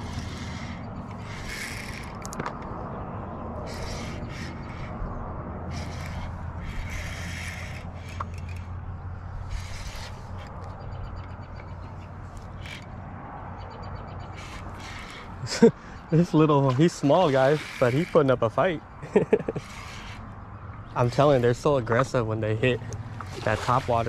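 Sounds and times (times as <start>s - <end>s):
fishing reel cranking: 0.0s - 2.6s, 3.6s - 5.0s, 5.7s - 13.0s, 14.3s - 15.7s, 16.7s - 22.1s, 22.8s - 24.0s.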